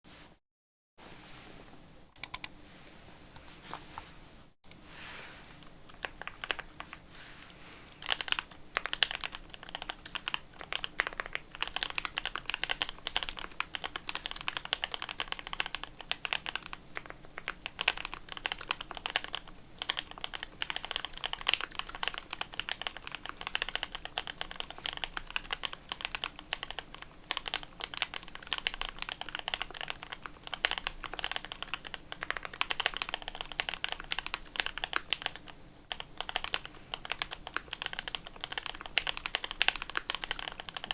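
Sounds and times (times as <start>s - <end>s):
typing on mechanical keyboard: 2.2s - 2.5s, 5.9s - 7.0s, 8.0s - 40.9s.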